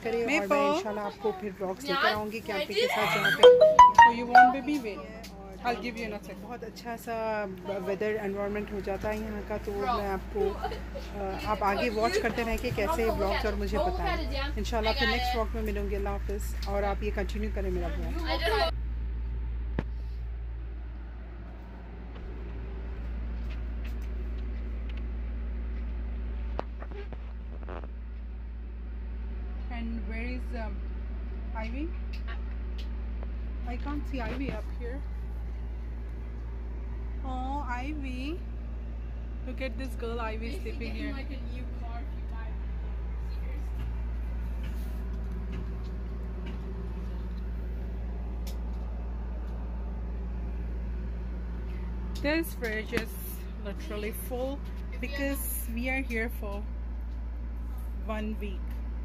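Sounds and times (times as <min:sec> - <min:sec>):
low mechanical hum: 0:00.0 - 0:59.0.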